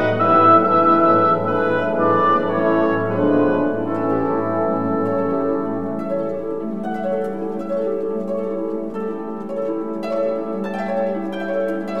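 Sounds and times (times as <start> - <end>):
orchestral music with plucked strings: 0.0 - 12.0.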